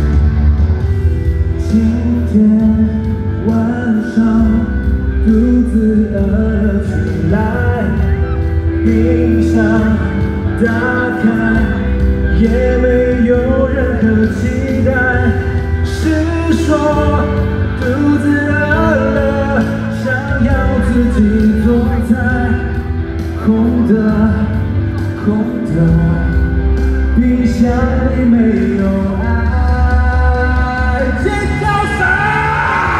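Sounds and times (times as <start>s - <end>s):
live band playing: 0.0s - 32.9s
man singing into microphone: 1.4s - 32.9s.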